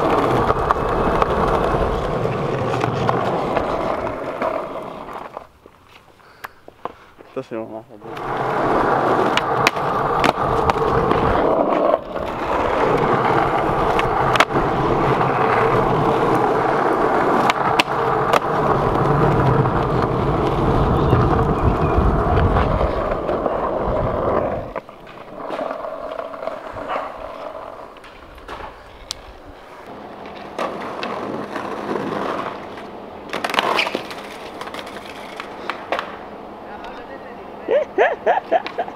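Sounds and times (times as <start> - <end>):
skateboard clacks: 0.0 - 5.5, 8.0 - 37.2, 38.5 - 38.9
skateboard wheels rolling on pavement: 0.0 - 38.9.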